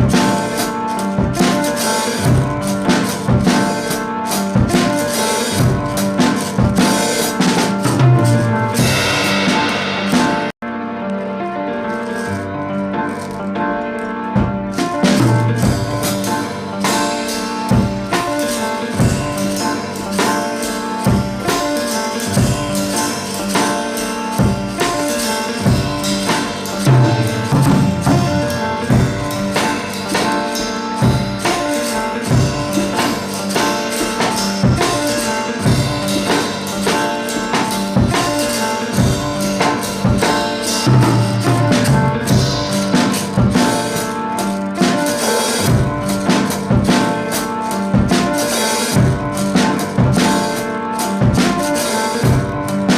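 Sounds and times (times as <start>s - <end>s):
steady drum beat: 0.0s - 10.6s, 14.3s - 52.9s.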